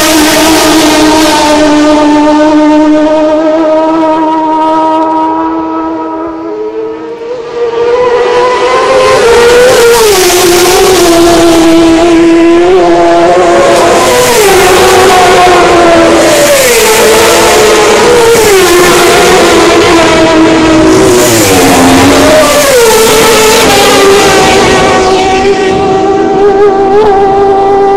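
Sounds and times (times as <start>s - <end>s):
racing motorcycles passing: 0.0s - 27.9s.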